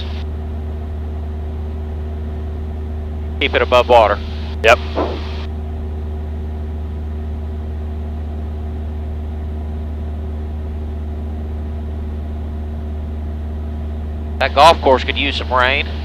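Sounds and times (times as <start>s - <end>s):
aircraft engine droning in cabin: 0.0s - 16.0s.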